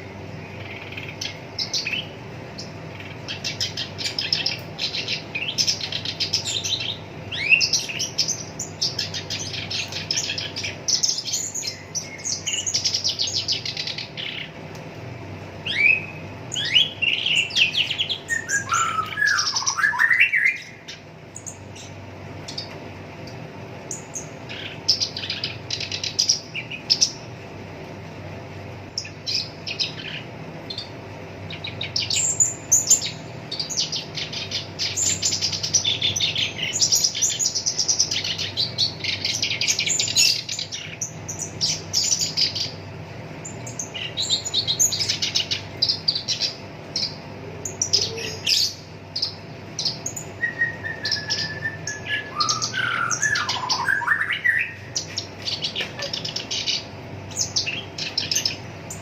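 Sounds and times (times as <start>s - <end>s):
reed warbler chattering song: 0.0s - 59.0s.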